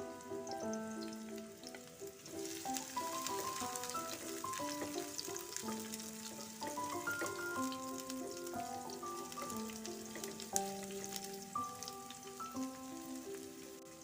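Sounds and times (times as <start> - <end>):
background music melody: 0.0 - 14.0
food sizzling in oil: 0.0 - 14.0.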